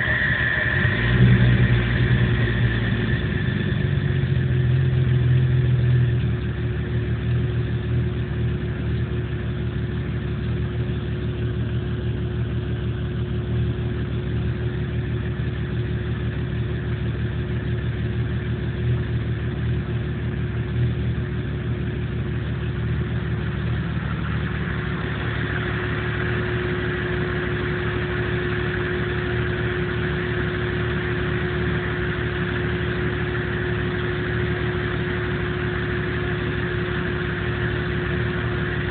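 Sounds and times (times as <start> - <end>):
car engine idling roughly: 0.0 - 38.9
steady whine: 0.0 - 38.9.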